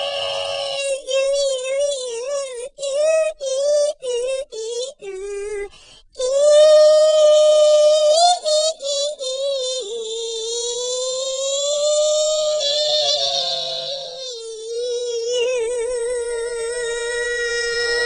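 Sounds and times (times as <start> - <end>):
person singing unaccompanied: 0.0 - 18.0.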